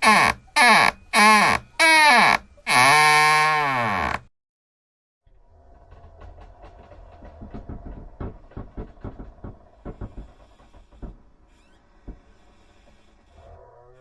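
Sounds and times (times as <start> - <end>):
door creaking on hinges: 0.0 - 4.3, 5.5 - 14.0.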